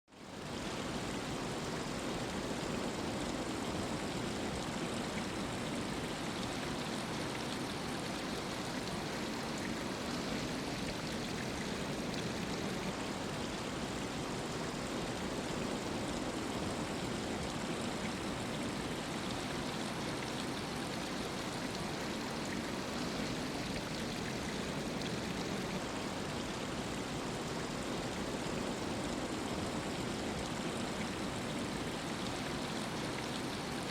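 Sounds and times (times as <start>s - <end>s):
water trickling: 0.2s - 33.9s.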